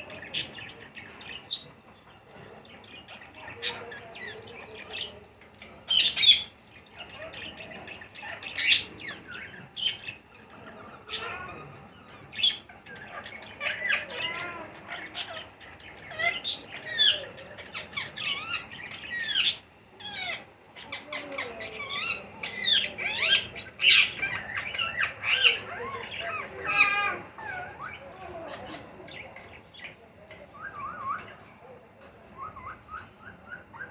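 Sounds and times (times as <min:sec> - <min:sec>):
parrots squawking and chirping: 0:00.0 - 0:33.9.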